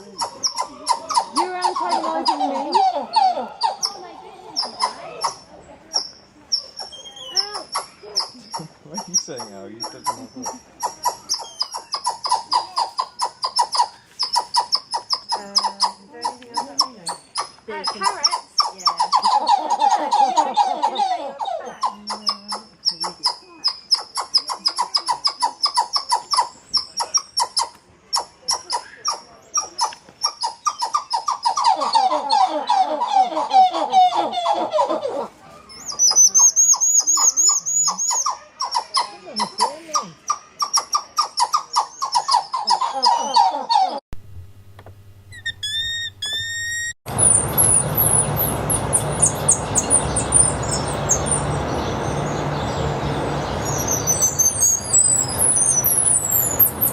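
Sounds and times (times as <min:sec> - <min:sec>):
primate chattering calls: 0:00.0 - 0:44.0, 0:45.3 - 0:56.9.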